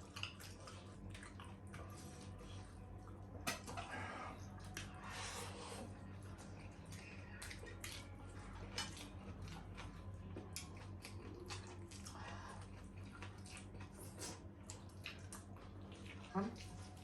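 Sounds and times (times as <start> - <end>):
chewing and wet mouth noises: 0.0 - 17.0
steady low hum: 0.0 - 17.0.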